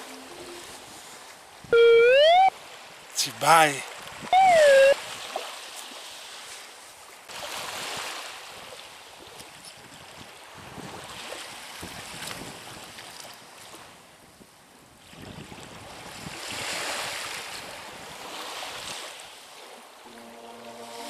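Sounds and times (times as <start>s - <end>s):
small waves washing onto shore: 2.5s - 21.0s.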